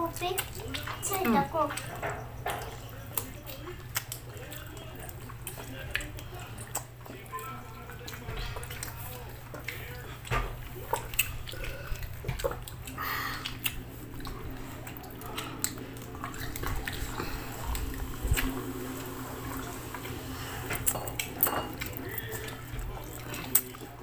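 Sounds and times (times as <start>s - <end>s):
chewing and mouth smacks: 0.0s - 24.0s.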